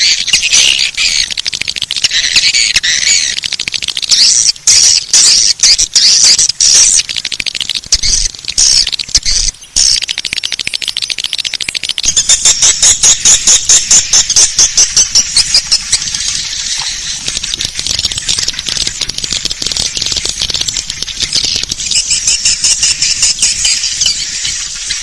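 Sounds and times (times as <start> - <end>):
swiftlet chirping and twittering: 0.0 - 7.2, 7.9 - 25.0.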